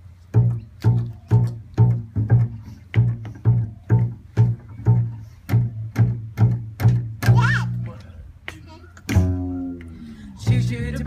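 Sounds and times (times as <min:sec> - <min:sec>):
plucked double bass: 0:00.3 - 0:11.0.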